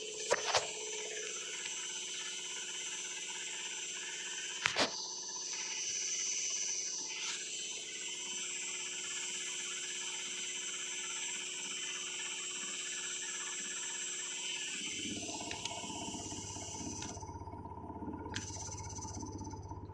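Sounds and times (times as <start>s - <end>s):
washing machine spinning: 0.0s - 19.9s.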